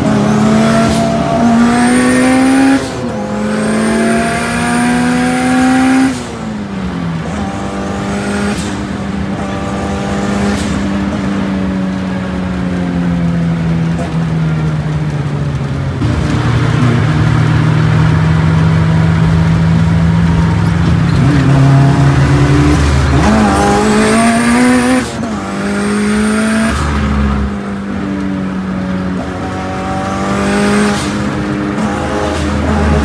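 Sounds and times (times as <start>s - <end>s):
car engine accelerating hard: 0.0s - 33.0s.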